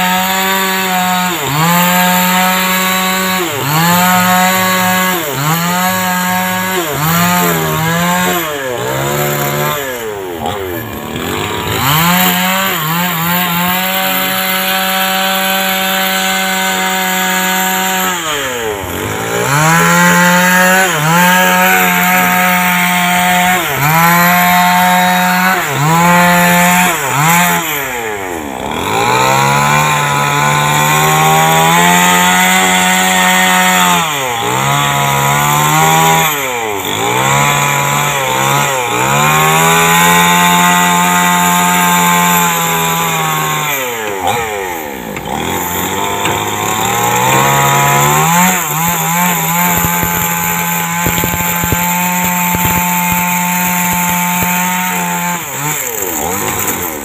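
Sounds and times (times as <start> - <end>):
chainsaw cutting timber: 0.0 - 57.0.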